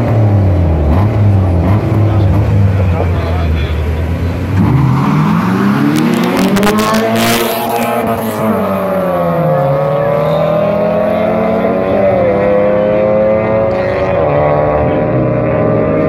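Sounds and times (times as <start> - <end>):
car engines revving and accelerating: 0.0 - 16.0.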